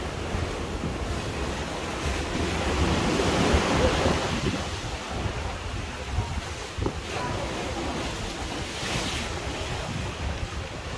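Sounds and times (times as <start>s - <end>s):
heavy waves breaking: 0.0s - 10.9s
wind buffeting microphone: 0.0s - 10.9s.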